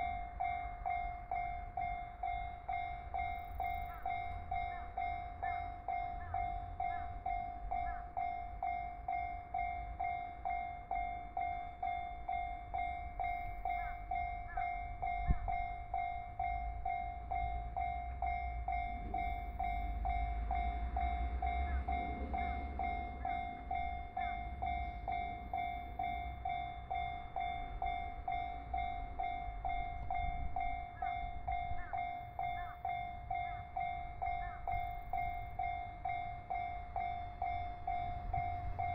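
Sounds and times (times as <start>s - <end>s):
level crossing warning bell: 0.0s - 38.9s.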